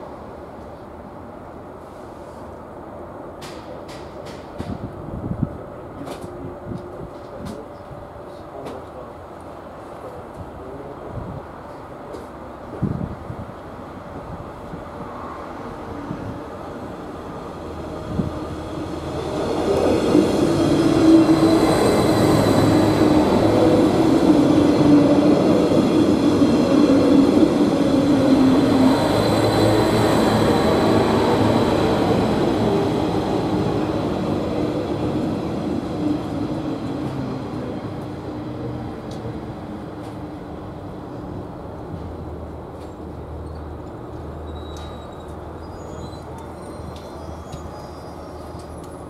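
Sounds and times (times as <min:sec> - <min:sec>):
diesel train passing: 0:00.0 - 0:49.0.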